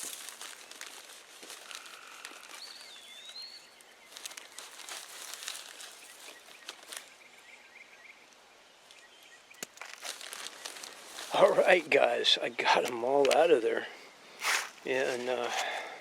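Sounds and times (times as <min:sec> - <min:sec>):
soil scraping and rustling: 0:00.0 - 0:07.2, 0:09.7 - 0:16.0.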